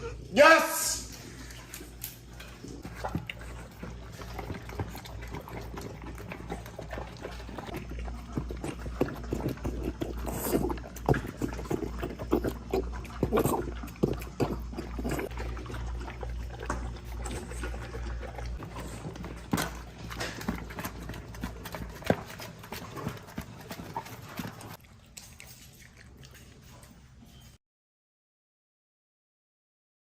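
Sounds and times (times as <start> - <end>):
dog eating from bowl: 1.0 - 27.6.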